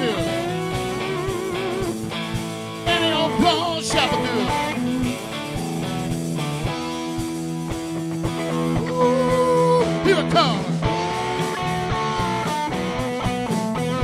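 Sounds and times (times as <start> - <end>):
lead guitar bent notes: 0.0 - 14.0
live rock band playing: 0.0 - 14.0.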